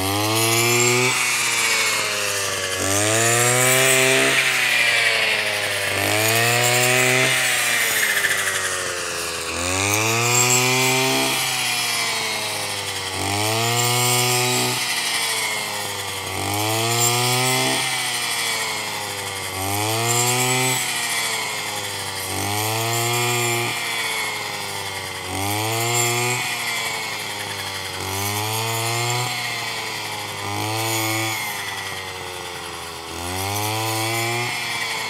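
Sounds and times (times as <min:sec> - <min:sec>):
blade cutting rice stalks: 0:00.0 - 0:35.0
brush cutter engine revving: 0:00.0 - 0:35.0.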